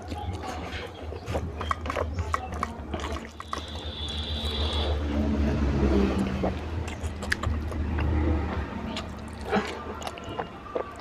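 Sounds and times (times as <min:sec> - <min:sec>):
wet chewing and mouth smacks: 0:00.0 - 0:11.0.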